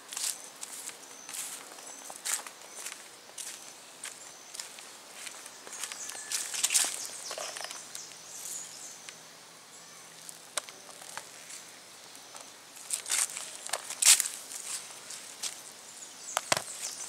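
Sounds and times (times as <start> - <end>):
dry leaves rustling: 0.0 - 9.0, 9.8 - 15.8.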